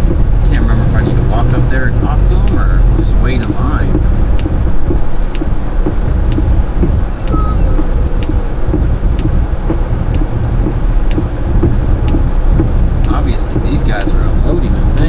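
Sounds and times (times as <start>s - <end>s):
light ticking: 0.0s - 15.0s
truck engine rumble: 0.0s - 15.0s
tyres on wet road: 0.0s - 15.0s.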